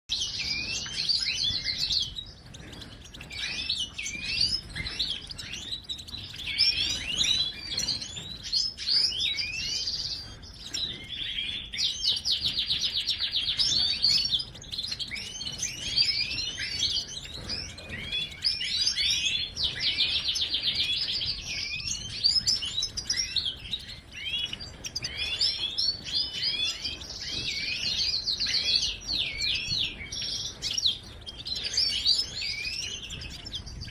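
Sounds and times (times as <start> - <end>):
finch singing: 0.1 - 33.9.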